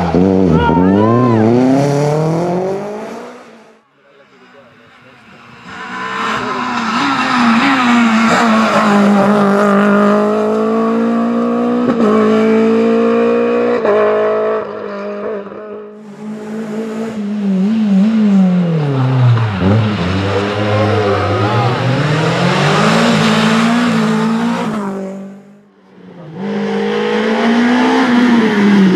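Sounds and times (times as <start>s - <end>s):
rally car engines revving high: 0.0s - 28.9s.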